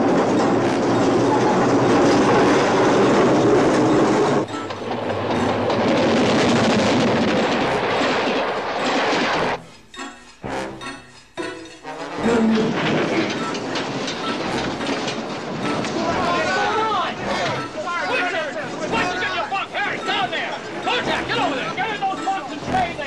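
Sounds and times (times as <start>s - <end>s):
railroad cars clattering on rails: 0.0s - 23.0s
scattered knocks: 0.0s - 23.0s.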